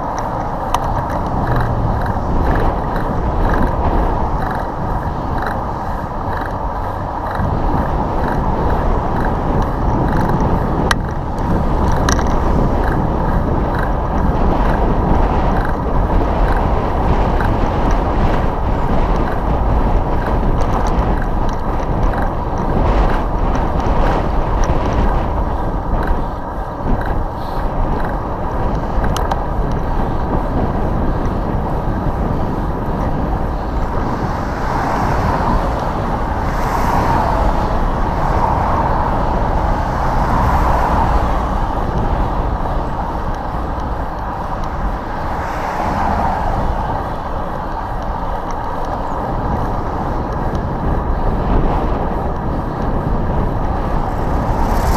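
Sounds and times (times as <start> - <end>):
vehicles passing: 0.0 - 54.9
wind buffeting microphone: 0.0 - 54.9.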